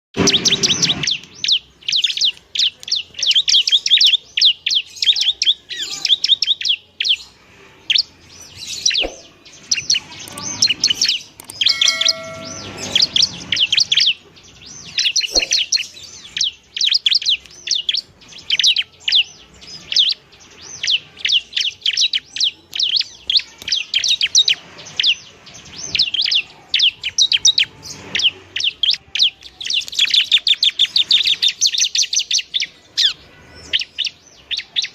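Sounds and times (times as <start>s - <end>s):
bird singing high sharp chirps: 0.2s - 34.9s.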